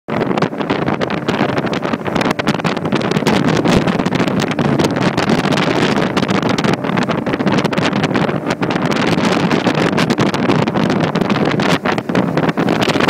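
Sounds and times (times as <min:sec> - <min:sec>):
boat engine: 0:00.1 - 0:13.0
water rushing: 0:00.1 - 0:13.0
wind buffeting microphone: 0:00.1 - 0:13.0.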